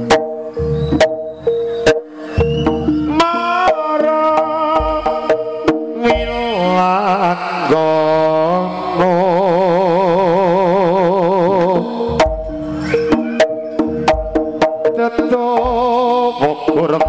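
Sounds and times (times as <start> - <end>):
drum strokes: 0.0 - 17.0
gamelan melody: 0.0 - 17.0.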